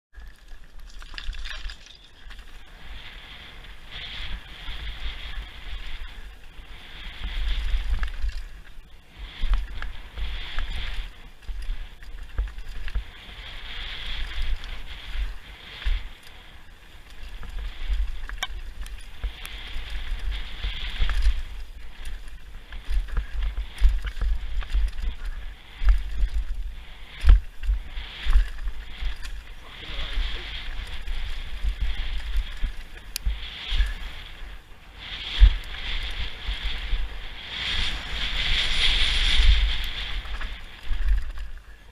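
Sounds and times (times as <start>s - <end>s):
wind buffeting microphone: 0.1s - 41.9s
tyres hissing on dirt trail: 0.2s - 41.9s
bike rattling and knocking: 3.8s - 37.1s, 37.7s - 41.9s.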